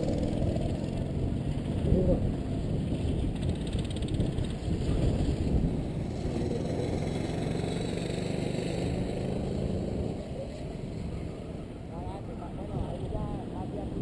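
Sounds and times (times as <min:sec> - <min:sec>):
kart engine running: 0:00.0 - 0:11.9.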